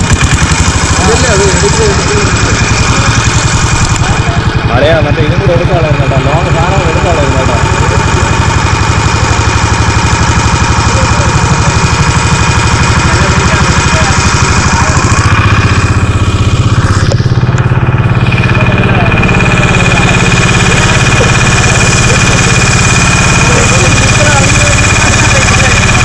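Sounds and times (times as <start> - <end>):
outboard motor chugging: 0.0 - 26.0.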